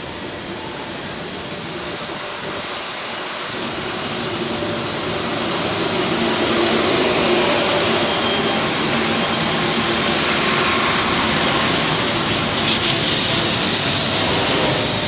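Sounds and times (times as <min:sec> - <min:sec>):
electric locomotive running in: 0:00.0 - 0:15.0.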